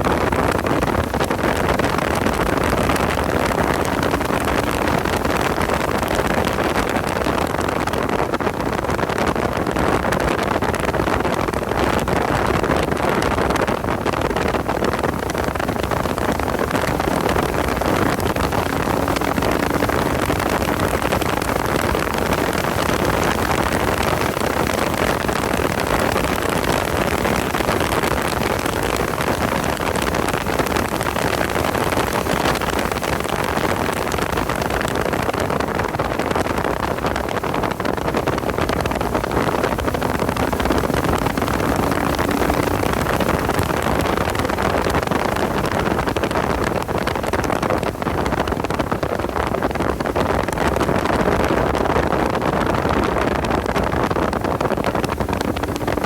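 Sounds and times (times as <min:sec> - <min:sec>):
wind and road noise: 0:00.0 - 0:56.0
car engine at speed: 0:00.2 - 0:08.4, 0:09.6 - 0:48.6, 0:53.4 - 0:56.0.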